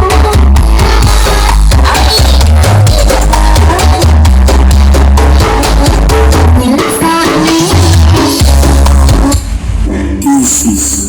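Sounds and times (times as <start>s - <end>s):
electronic dance music with heavy bass: 0.0s - 11.0s.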